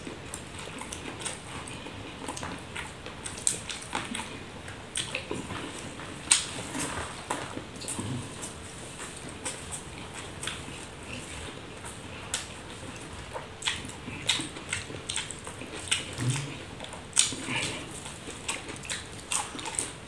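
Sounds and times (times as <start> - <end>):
man chewing and smacking: 0.0 - 20.0.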